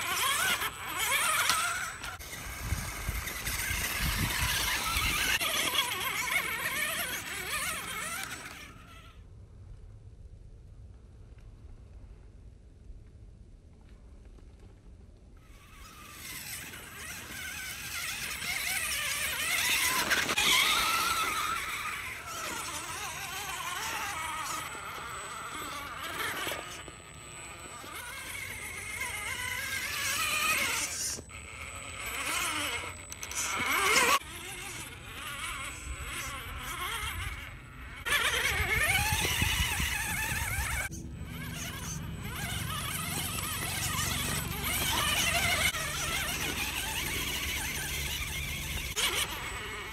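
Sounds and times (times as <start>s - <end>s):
electric motor whining: 0.0s - 9.2s, 15.4s - 49.9s.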